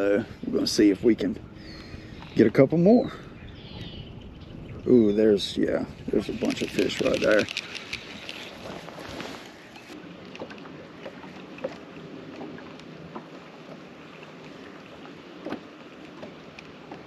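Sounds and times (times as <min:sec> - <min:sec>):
light wind: 0:00.0 - 0:17.0
small waves lapping against boat hull: 0:00.0 - 0:17.0.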